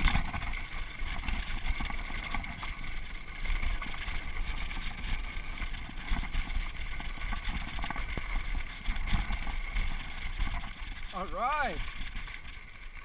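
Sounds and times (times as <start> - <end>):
bike rattles and clicks: 0.0 - 13.0
tyres rolling over dirt: 0.0 - 13.0.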